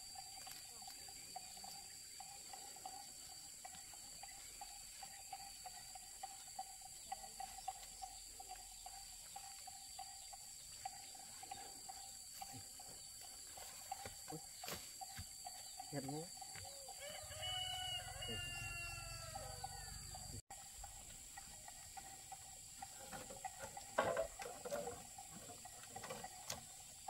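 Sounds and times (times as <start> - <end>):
rapidly pulsing insect chirp: 0.0 - 27.0.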